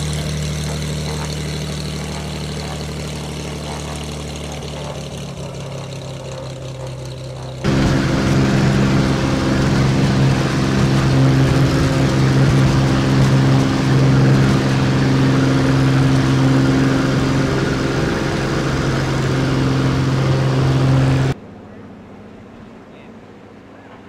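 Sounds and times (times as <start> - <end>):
loud engine droning: 0.0 - 22.4.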